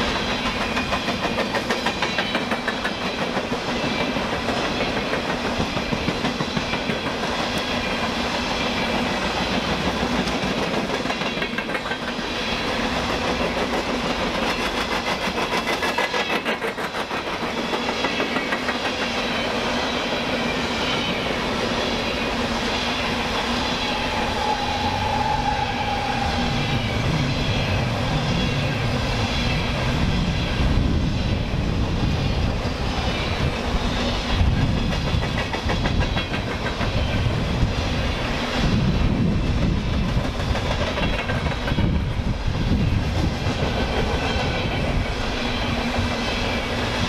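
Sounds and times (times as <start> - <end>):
train cars rumbling past: 0.0 - 47.0
wheels clickety-clack on rail joints: 0.0 - 47.0.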